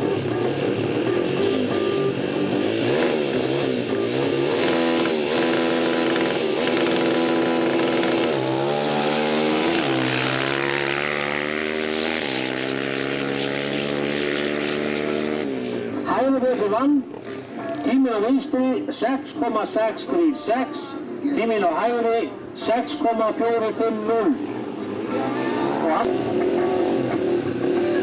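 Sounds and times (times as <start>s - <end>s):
quad bike engines revving: 0.0s - 28.0s.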